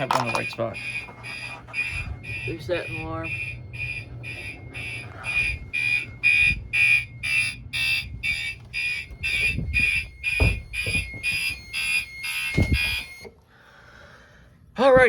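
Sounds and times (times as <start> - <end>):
low thumps: 0.0 - 13.2
fire alarm horn beeping: 0.0 - 13.4.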